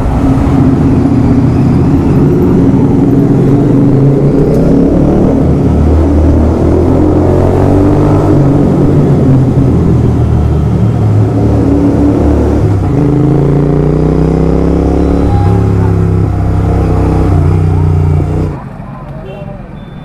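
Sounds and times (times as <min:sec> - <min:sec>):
motorcycle engine accelerating: 0:00.0 - 0:18.7.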